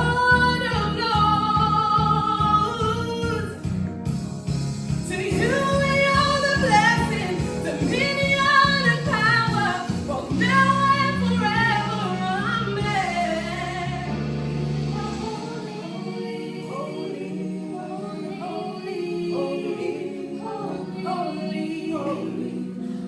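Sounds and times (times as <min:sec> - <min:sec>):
choir singing gospel: 0:00.0 - 0:03.8, 0:04.5 - 0:23.0
low instrumental backing: 0:00.0 - 0:23.0.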